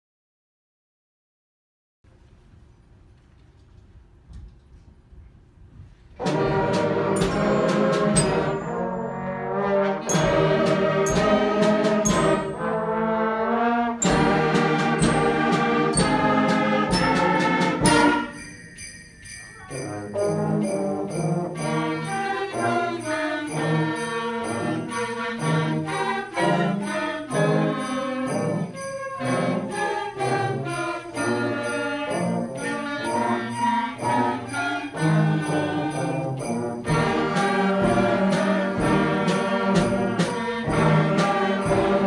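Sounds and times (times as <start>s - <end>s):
percussion hits: 6.2s - 9.3s, 10.0s - 13.0s, 14.0s - 42.0s
concert band playing: 6.2s - 13.0s, 14.0s - 42.0s.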